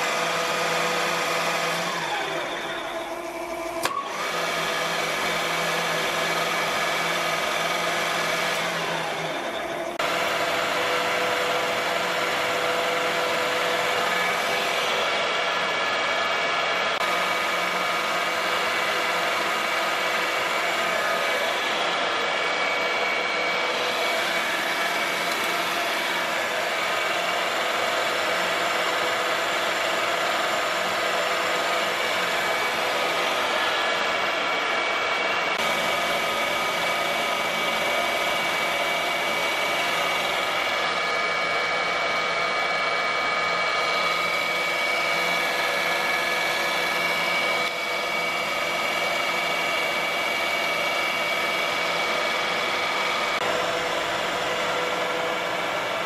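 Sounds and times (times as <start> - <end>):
milling machine motor whine: 0.0 - 56.0.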